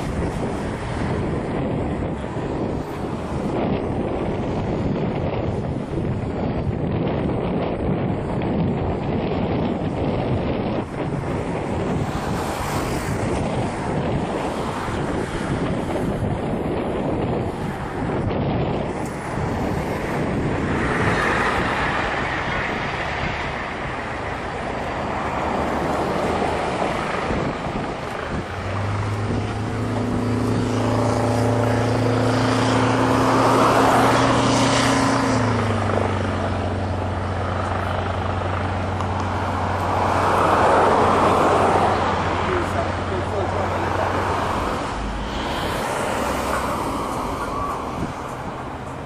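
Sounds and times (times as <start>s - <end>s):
aircraft engine noise: 0.0s - 49.0s
low engine drone: 0.0s - 49.0s
windy rumble: 0.0s - 49.0s.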